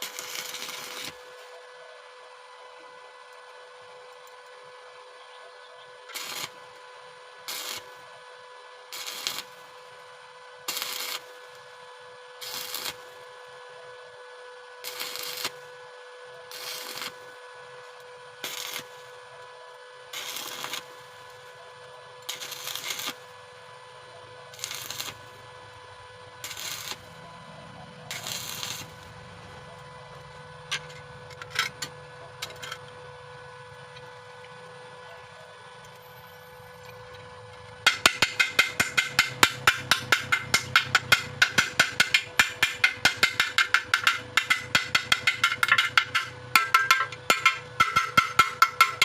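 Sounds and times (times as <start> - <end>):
arc welder crackling: 0.0 - 1.7, 6.0 - 49.0.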